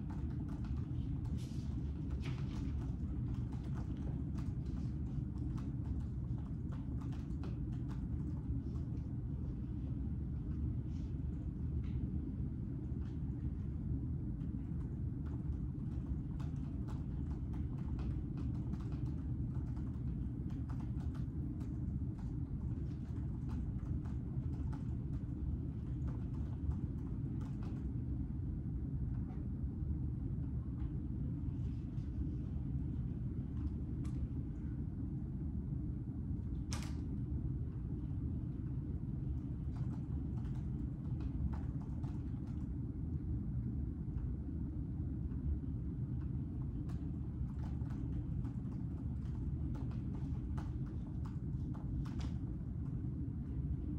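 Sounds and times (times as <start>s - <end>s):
low room hum: 0.0s - 53.9s.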